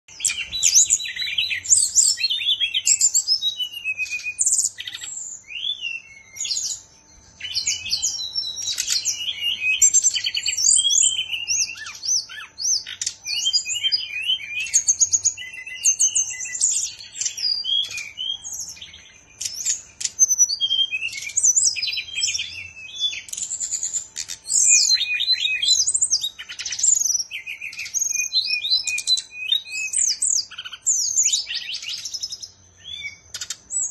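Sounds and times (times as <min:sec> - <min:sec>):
bird singing whistles and trills: 0:00.1 - 0:33.9.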